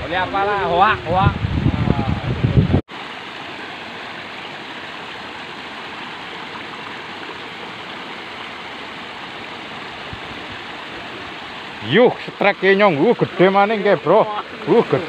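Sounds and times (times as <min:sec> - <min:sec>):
water rushing in a ditch: 0:00.0 - 0:15.0.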